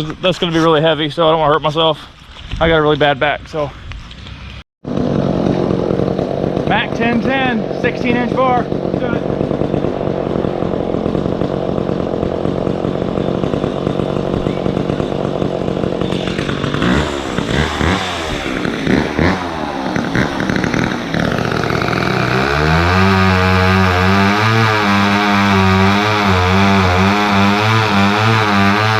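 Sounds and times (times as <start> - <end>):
chainsaw revving: 4.8 - 28.9.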